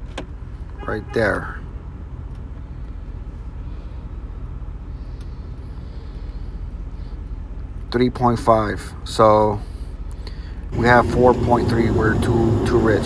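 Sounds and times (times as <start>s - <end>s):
gas furnace rumbling: 0.0s - 13.0s.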